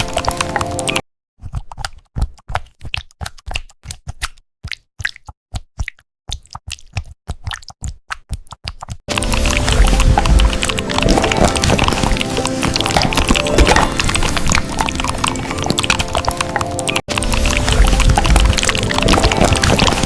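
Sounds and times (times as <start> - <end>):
squishy wet key presses: 0.0 - 20.0.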